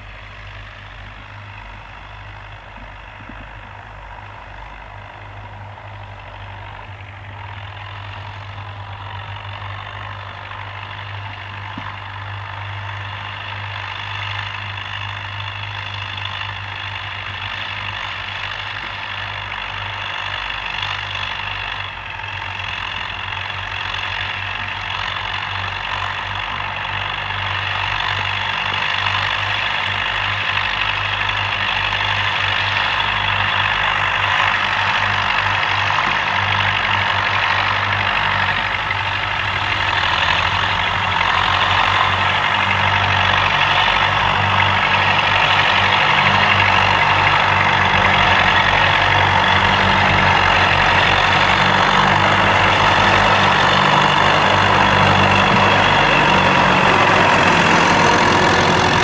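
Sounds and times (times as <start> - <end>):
tractor diesel engines under load: 0.0 - 59.0.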